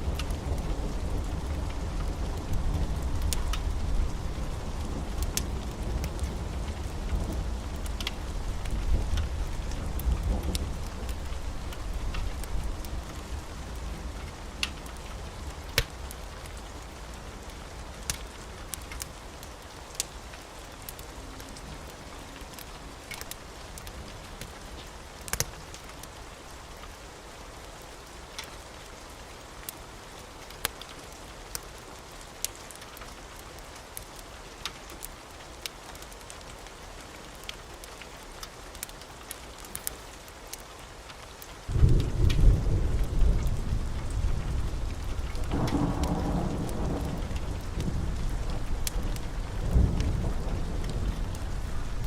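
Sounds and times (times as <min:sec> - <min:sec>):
wood fire crackling and popping: 0:00.0 - 0:27.0, 0:27.7 - 0:28.6, 0:29.6 - 0:52.0.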